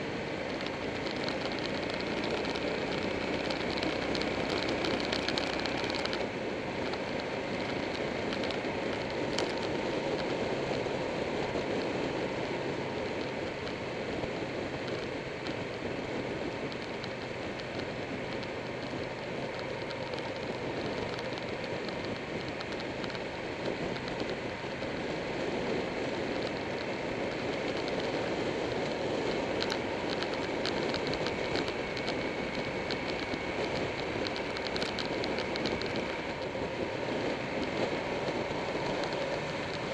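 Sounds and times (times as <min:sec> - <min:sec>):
motorcycle engine running: 0:00.0 - 0:39.9
road noise: 0:00.0 - 0:39.9
wind rush: 0:00.0 - 0:39.9
faint rattle of ticks: 0:00.4 - 0:39.9.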